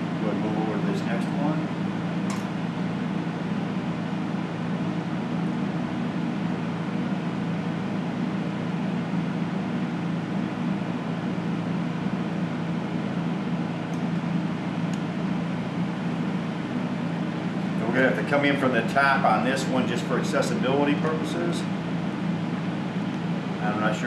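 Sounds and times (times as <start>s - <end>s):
soldering unit humming: 0.0s - 24.0s.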